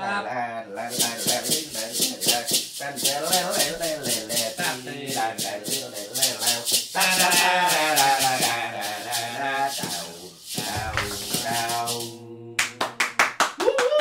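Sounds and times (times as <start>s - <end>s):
maraca shaken: 0.8s - 12.2s.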